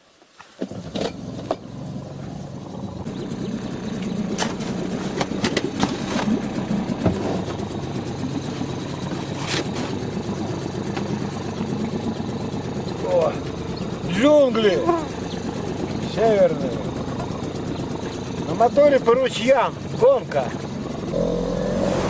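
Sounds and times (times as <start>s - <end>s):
outboard motor running: 0.7s - 22.0s.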